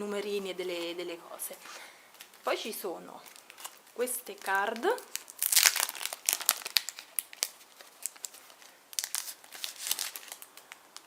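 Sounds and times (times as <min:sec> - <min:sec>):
packaging crinkling and rustling: 0:00.2 - 0:11.0.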